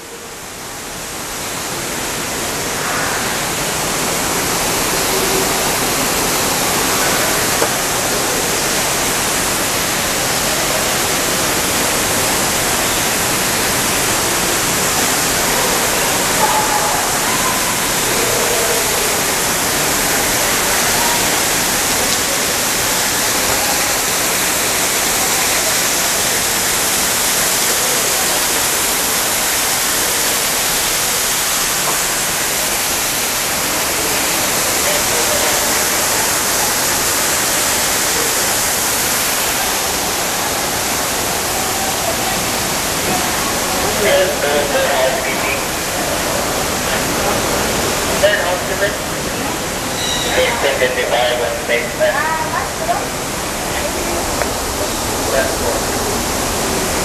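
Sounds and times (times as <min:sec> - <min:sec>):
falling water rushing: 0:00.0 - 0:57.0.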